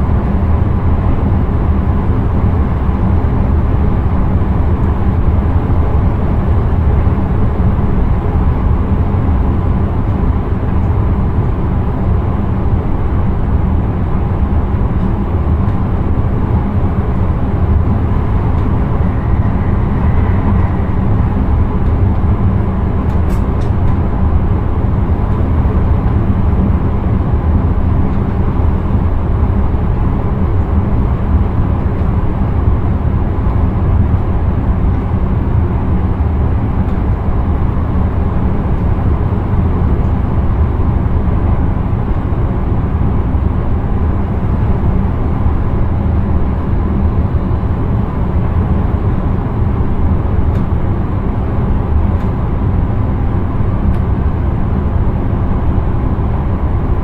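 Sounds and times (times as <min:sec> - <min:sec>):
train wheels rumbling on rails: 0:00.0 - 0:54.4
faint steady whine: 0:00.0 - 0:57.0.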